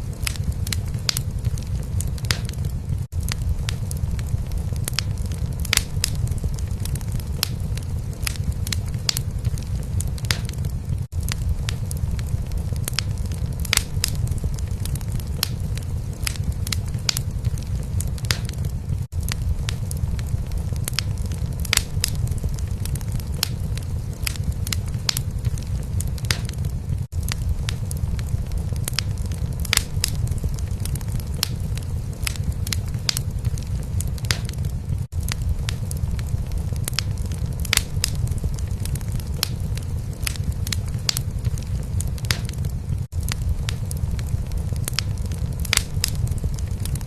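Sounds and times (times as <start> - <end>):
fire crackling and popping: 0.0 - 47.0.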